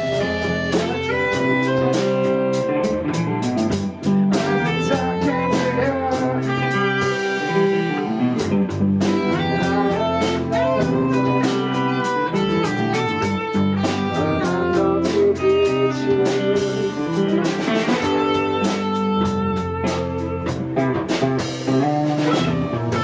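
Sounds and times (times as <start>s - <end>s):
guitar: 0.0s - 23.0s
live band playing: 0.0s - 23.0s.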